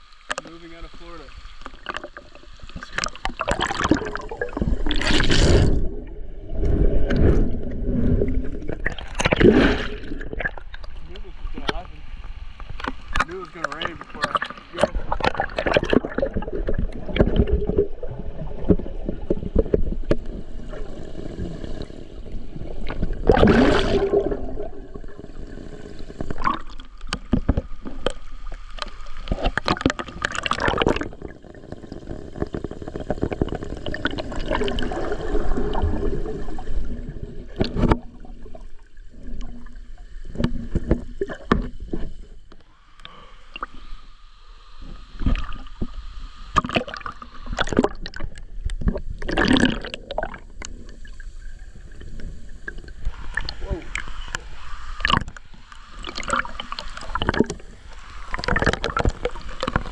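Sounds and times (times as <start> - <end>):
water splashing from swimming: 0.0 - 42.2, 44.8 - 51.6, 52.6 - 59.9.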